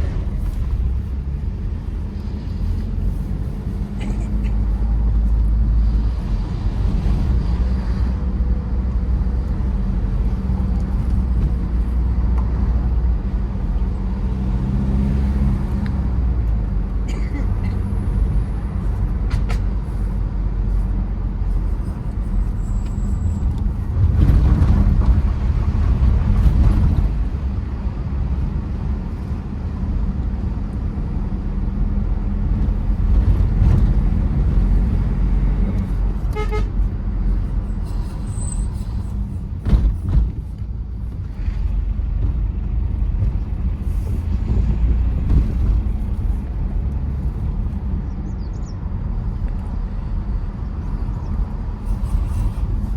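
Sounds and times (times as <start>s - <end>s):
suv engine and road noise: 0.0s - 52.9s.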